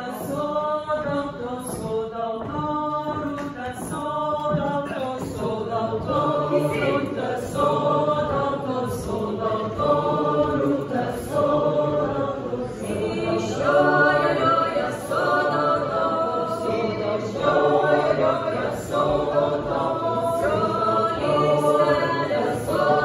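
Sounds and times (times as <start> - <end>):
women singing a cappella harmony: 0.0 - 23.0.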